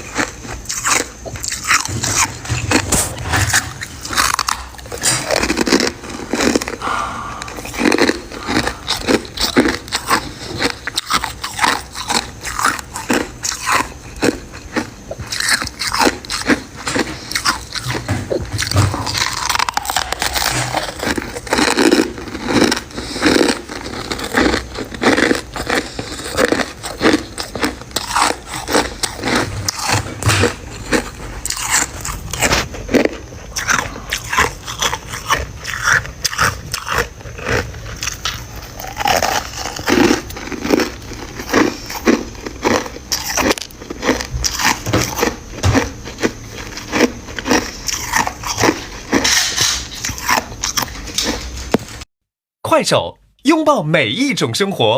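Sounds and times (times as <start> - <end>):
chewing crunchy frost: 0.0 - 52.0.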